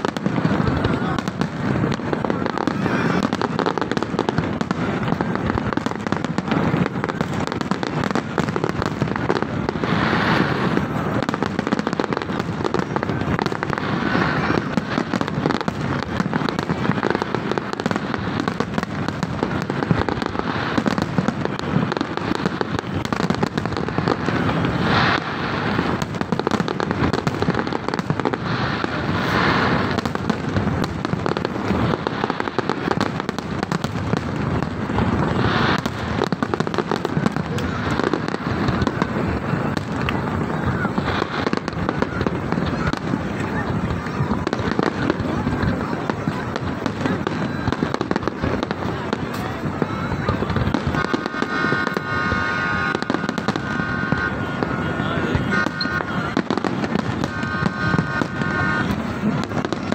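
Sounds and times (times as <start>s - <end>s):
fireworks bursts and crackle: 0.0s - 59.9s.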